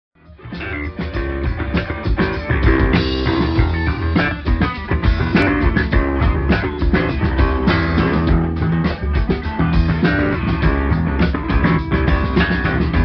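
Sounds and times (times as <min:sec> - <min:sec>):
bass guitar: 0:00.2 - 0:13.0
drum kit beat: 0:00.2 - 0:13.0
electric guitar: 0:00.2 - 0:13.0.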